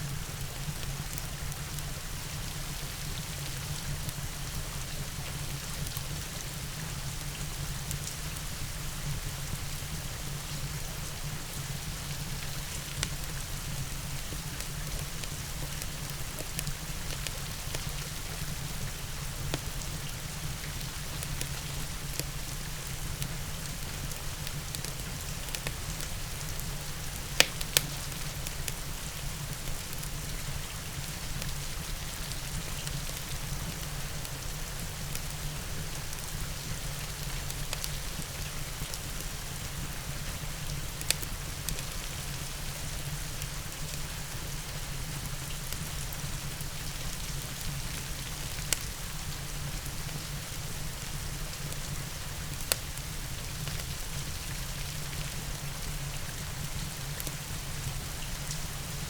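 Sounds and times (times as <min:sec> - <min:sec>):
steady rain: 0:00.0 - 0:59.0
wood fire crackles: 0:00.0 - 0:59.0.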